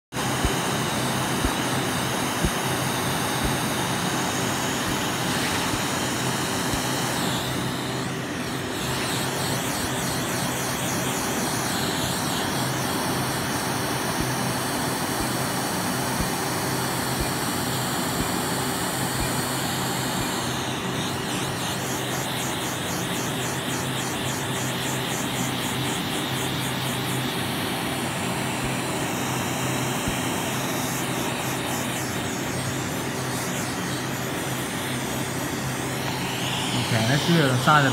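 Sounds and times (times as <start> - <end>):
laser equipment hiss and hum: 0.1 - 37.9.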